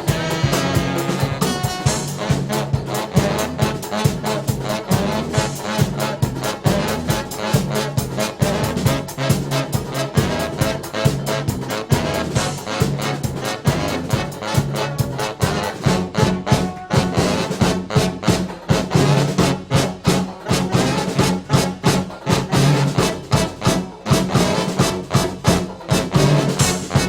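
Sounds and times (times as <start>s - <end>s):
brass band playing: 0.0s - 27.0s.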